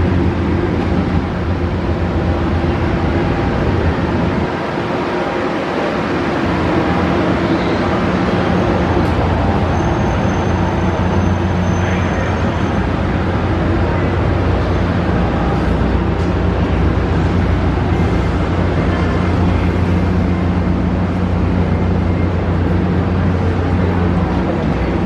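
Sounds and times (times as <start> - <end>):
train running rumble: 0.0 - 25.0.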